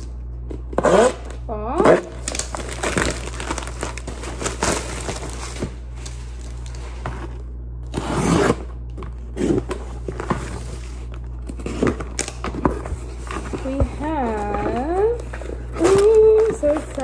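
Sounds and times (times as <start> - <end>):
plastic mailer tearing and crinkling: 0.7 - 17.0.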